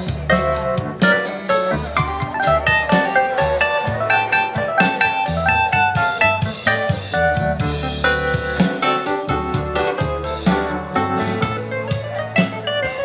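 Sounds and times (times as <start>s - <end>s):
electric guitar lead: 0.0s - 13.0s
live band music: 0.0s - 13.0s.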